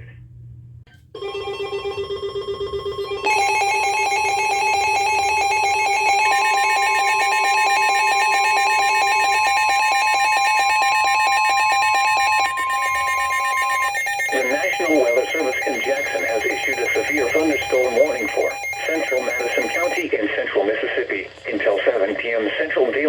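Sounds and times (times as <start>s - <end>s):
steady single alarm tone: 1.2s - 20.0s
warbling electronic alert tone: 1.2s - 20.0s.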